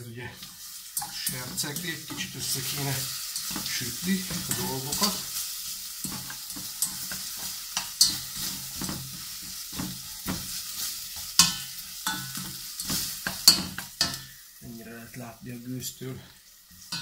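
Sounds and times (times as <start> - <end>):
aromatics sizzling in hot oil: 0.0 - 17.0
spatula scraping and tapping pot: 0.4 - 14.3.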